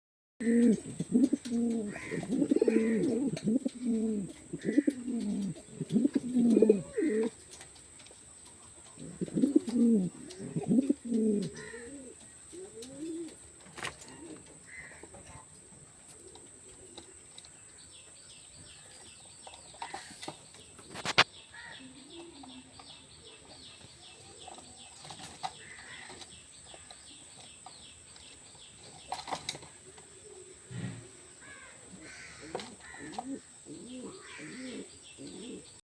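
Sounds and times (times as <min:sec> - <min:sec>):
pigeons cooing: 0:00.4 - 0:27.9, 0:28.6 - 0:35.8.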